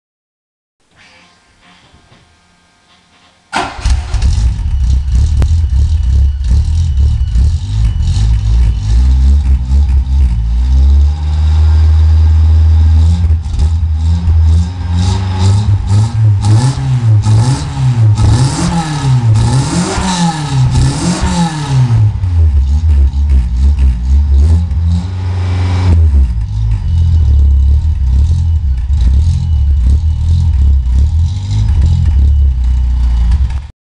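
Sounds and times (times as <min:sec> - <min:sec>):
car engine revving: 0:03.5 - 0:33.7
exhaust popping: 0:03.5 - 0:33.7.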